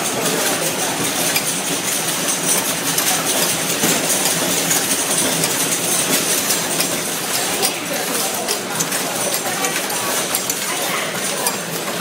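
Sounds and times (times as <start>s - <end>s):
packaging machine running: 0.0s - 12.0s.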